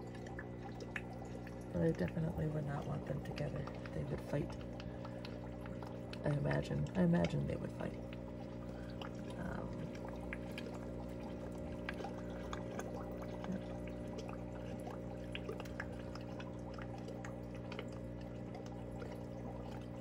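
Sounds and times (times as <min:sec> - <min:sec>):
low steady hum: 0:00.0 - 0:20.0
sponge filter bubbling: 0:00.0 - 0:20.0.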